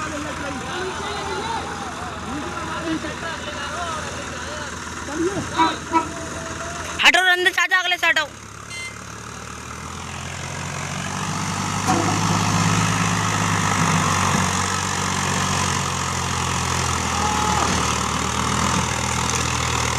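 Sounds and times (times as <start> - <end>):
tractor engine running: 0.0 - 19.9.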